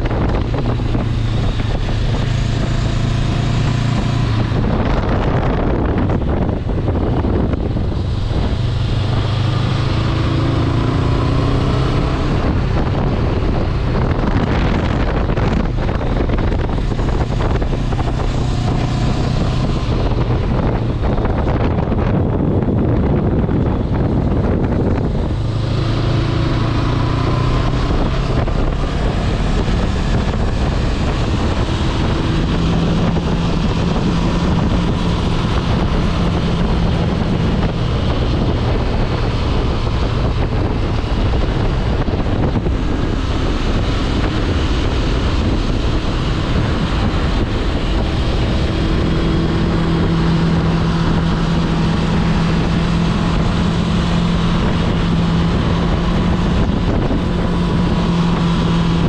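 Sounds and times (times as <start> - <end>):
motorcycle engine cruising: 0.0 - 59.0
wind rush on microphone: 0.0 - 59.0.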